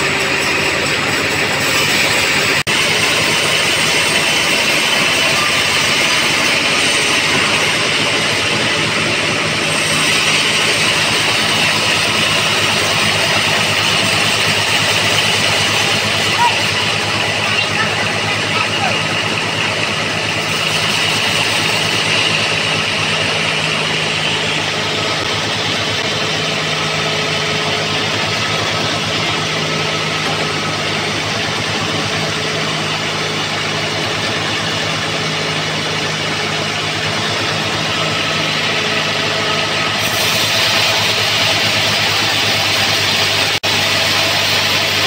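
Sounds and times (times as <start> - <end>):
band sawmill humming: 0.0 - 45.0
saw blade cutting log: 0.0 - 45.0.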